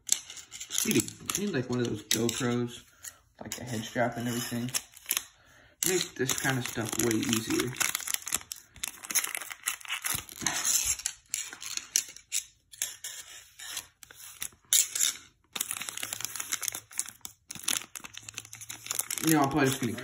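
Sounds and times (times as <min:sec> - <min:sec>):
plastic wrapper crinkling and tearing: 0:00.7 - 0:02.5, 0:03.6 - 0:12.3, 0:13.9 - 0:20.0.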